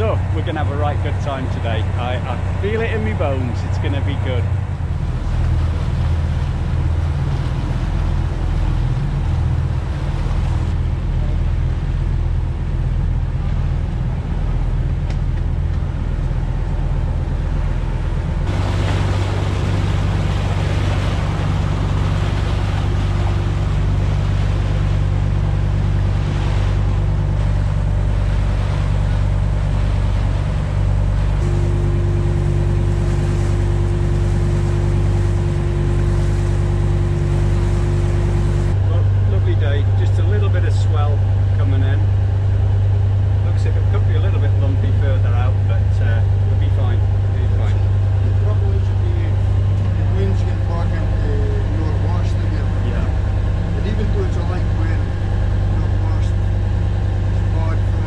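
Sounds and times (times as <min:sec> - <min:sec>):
boat engine humming: 0:00.0 - 0:58.0
water rushing along hull: 0:00.0 - 0:58.0.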